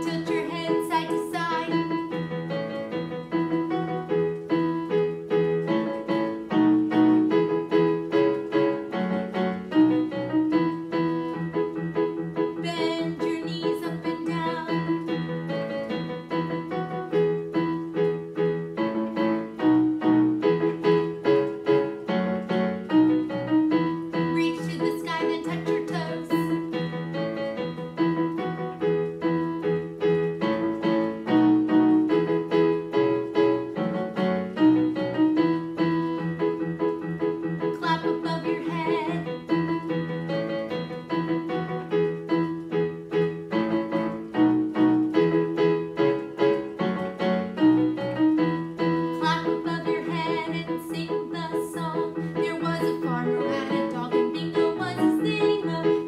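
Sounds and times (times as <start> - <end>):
digital piano notes and chords: 0.0 - 56.0.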